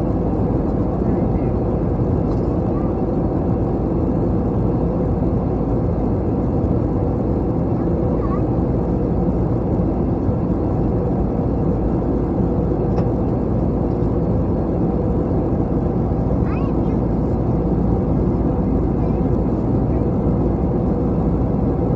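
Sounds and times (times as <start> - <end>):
airliner cabin drone: 0.0 - 21.9.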